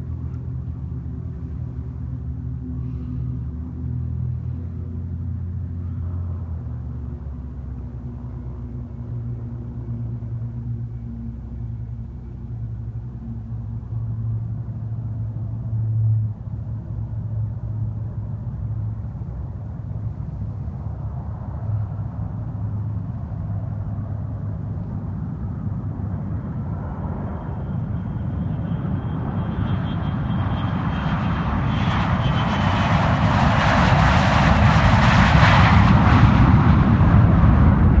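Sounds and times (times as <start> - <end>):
distant jet engines rumbling: 0.0 - 38.0.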